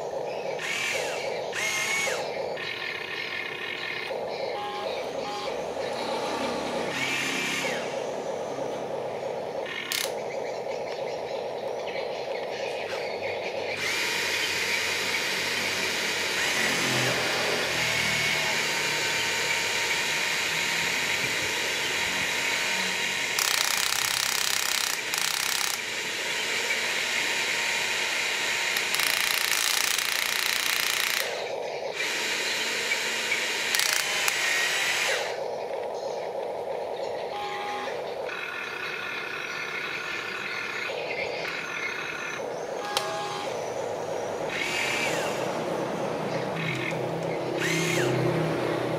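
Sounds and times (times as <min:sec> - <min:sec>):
toy excavator motors whirring: 0:00.0 - 0:48.9.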